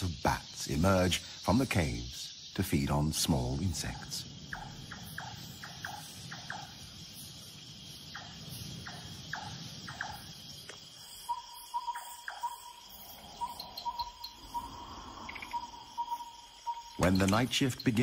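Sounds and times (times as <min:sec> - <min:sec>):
insect high-pitched drone: 0:00.0 - 0:18.0
pulsing insect trill: 0:00.0 - 0:18.0.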